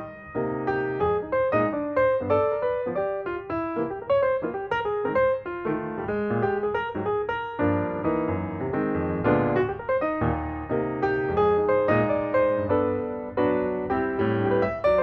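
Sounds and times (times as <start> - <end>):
light piano melody: 0.0 - 15.0.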